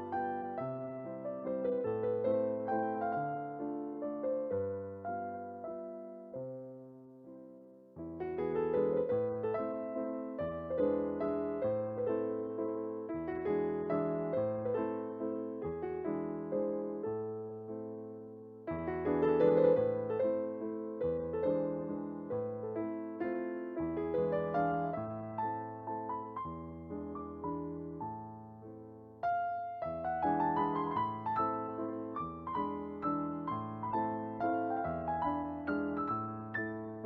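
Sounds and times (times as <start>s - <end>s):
keyboard music with piano chords: 0.0s - 37.0s.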